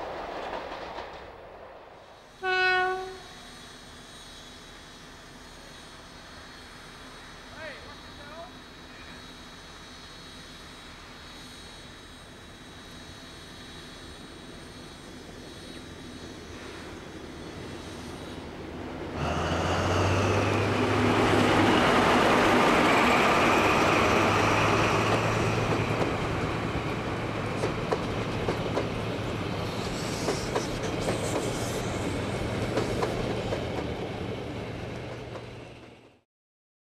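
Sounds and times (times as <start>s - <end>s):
diesel train engine hum: 0.0s - 36.2s.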